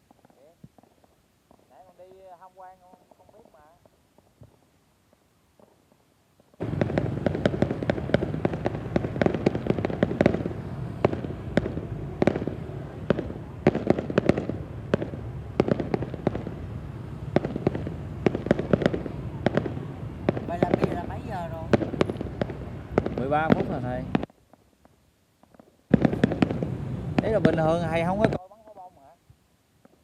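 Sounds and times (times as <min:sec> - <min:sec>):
fireworks bangs and crackles: 0:00.0 - 0:29.2.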